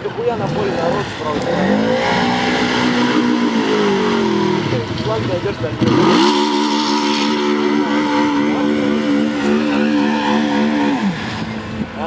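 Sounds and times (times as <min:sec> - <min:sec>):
atv engine at high revs: 0:00.3 - 0:12.0.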